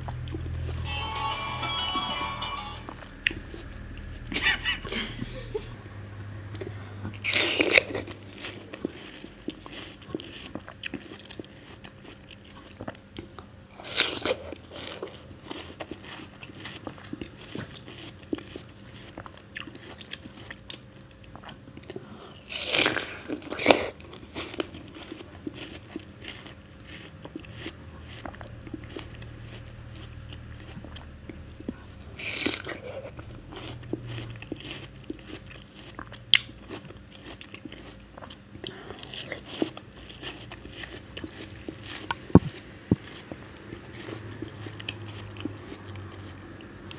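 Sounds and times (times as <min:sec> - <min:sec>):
chewing: 0:00.0 - 0:00.8, 0:06.5 - 0:46.9.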